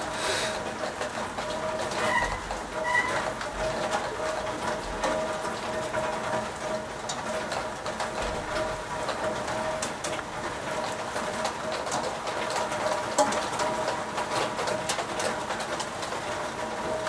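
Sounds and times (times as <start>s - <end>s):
rain pattering: 0.0s - 17.0s
raindrops ticking close by: 0.0s - 17.0s.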